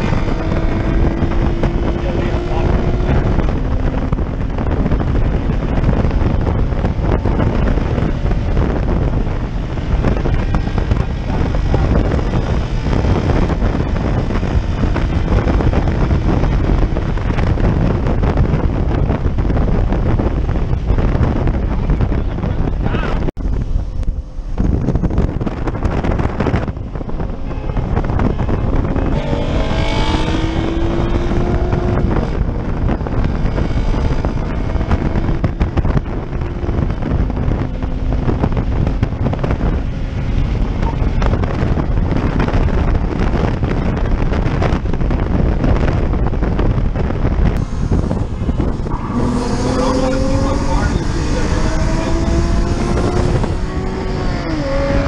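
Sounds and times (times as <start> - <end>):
car engine accelerating: 0.0 - 55.0
wind buffeting microphone: 0.0 - 55.0.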